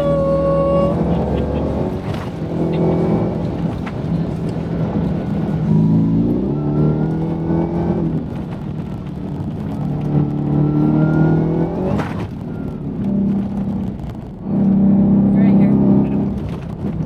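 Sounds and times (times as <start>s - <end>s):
engine accelerating: 0.0s - 17.0s.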